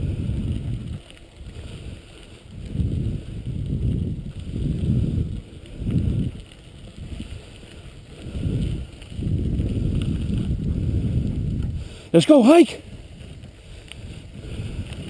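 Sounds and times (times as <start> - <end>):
wheels rolling on gravel: 0.0 - 15.0
wind buffeting microphone: 0.0 - 15.0.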